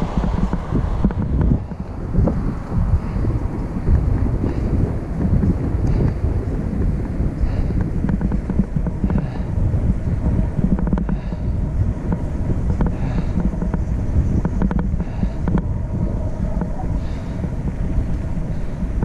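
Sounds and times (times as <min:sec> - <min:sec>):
road and engine rumble: 0:00.0 - 0:19.0
wind buffeting microphone: 0:00.0 - 0:19.0
light rattles and clicks: 0:00.1 - 0:15.7.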